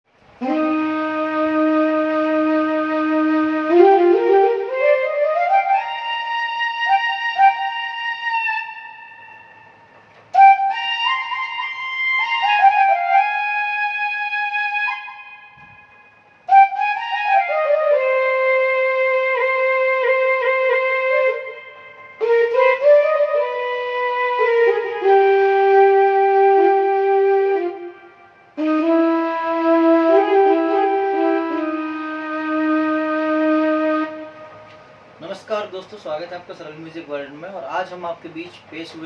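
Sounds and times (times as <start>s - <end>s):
electronic keyboard flute melody: 0.4s - 35.0s.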